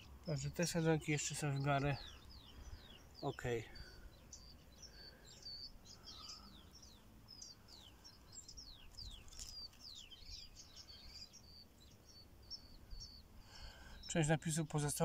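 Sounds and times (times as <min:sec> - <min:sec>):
faint songbirds chirping: 0:00.0 - 0:15.0.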